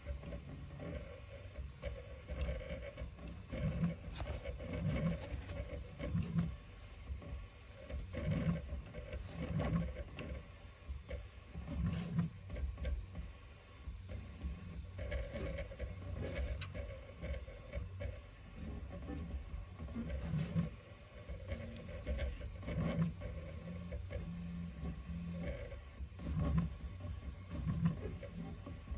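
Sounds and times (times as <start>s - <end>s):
printer low pulses: 0.0s - 28.9s.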